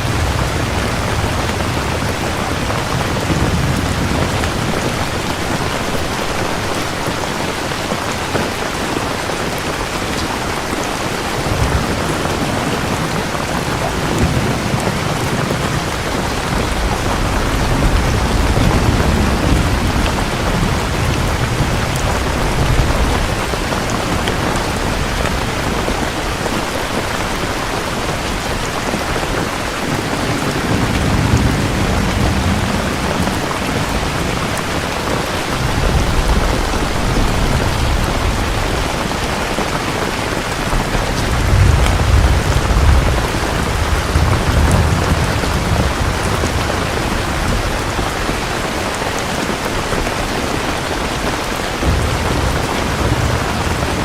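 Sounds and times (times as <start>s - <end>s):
rolling thunder: 0.0s - 7.0s, 9.6s - 54.0s
heavy rain: 0.0s - 54.0s.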